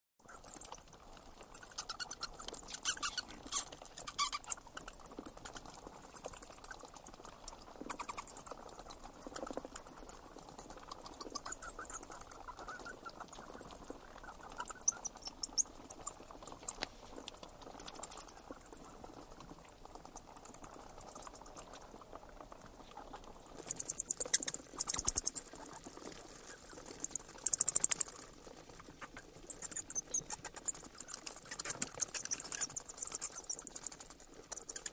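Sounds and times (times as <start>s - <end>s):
bats chittering: 0.4s - 23.0s, 23.6s - 34.9s.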